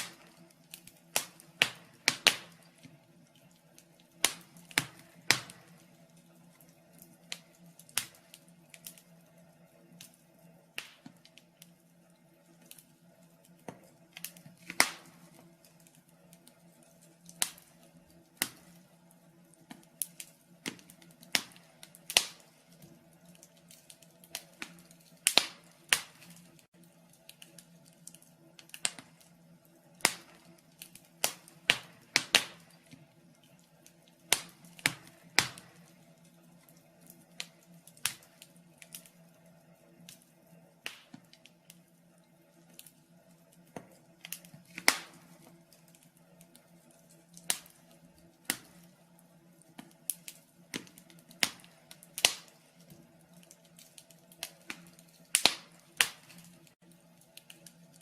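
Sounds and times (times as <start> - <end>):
wood fire pops and snaps: 0.0 - 11.8, 12.4 - 41.8, 42.5 - 58.0.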